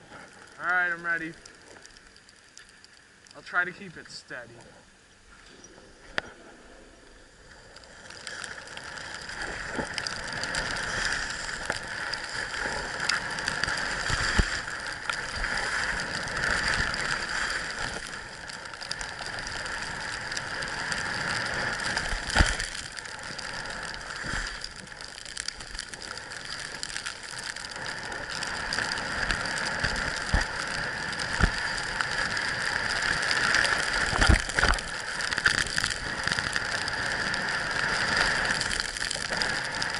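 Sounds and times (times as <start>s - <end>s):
skis scraping on snow: 5.9s - 39.9s.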